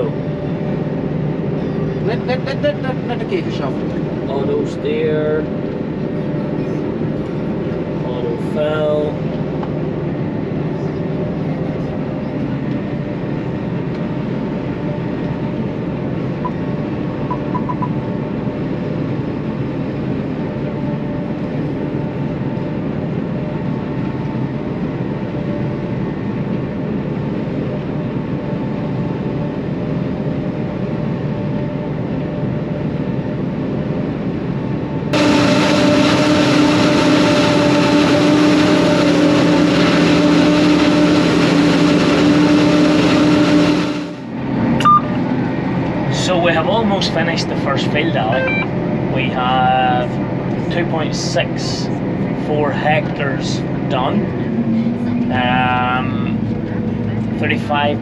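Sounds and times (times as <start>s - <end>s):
forage harvester engine drone: 0.0s - 58.0s.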